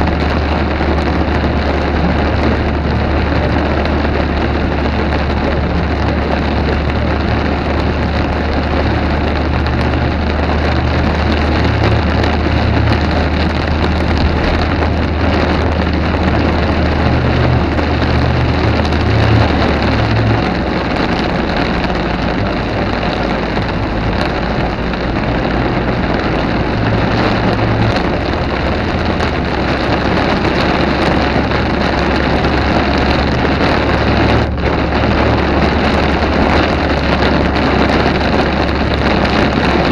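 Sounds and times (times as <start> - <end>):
heavy rain hissing: 0.0 - 39.9
low thunder rumble: 0.0 - 39.9.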